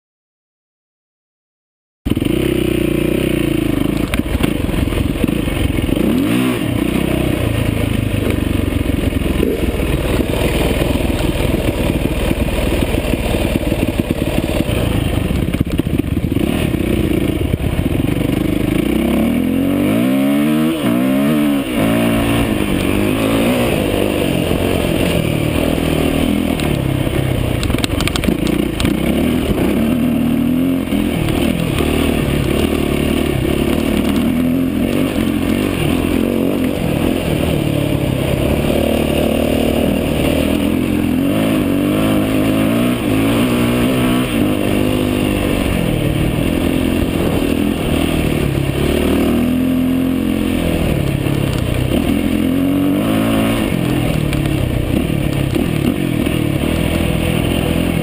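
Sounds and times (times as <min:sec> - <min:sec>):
dirt bike engine revving: 0:02.1 - 0:58.0.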